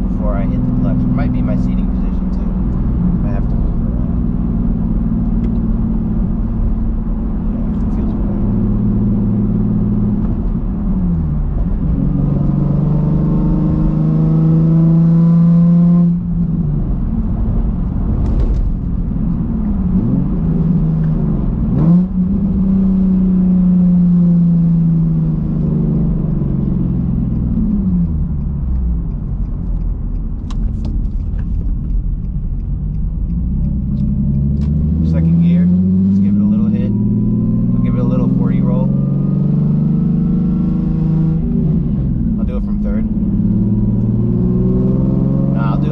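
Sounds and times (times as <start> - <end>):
car engine accelerating through gears: 0.0 - 45.9.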